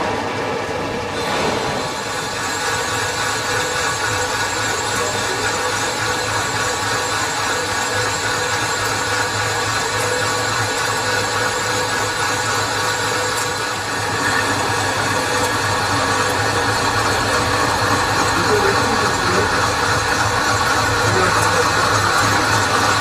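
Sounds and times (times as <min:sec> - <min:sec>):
metal lathe whining: 0:01.1 - 0:23.0.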